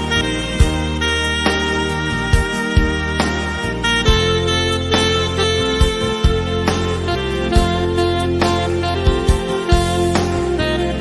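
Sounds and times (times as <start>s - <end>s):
music with saxophone melody: 0.0s - 11.0s.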